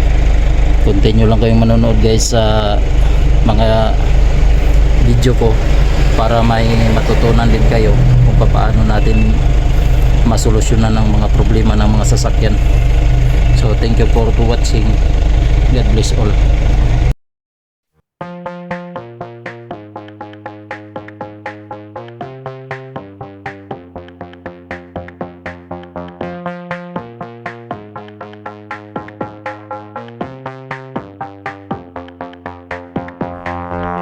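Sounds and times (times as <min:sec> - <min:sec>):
synthesizer plucked riff: 0:00.0 - 0:15.8, 0:18.2 - 0:34.0
sustained synth chords: 0:00.0 - 0:17.1, 0:18.3 - 0:34.0.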